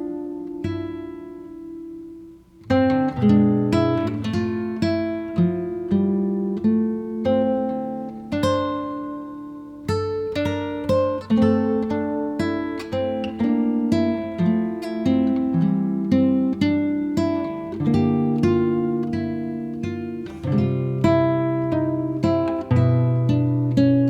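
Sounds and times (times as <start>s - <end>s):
plucked acoustic guitar: 0.0s - 24.0s.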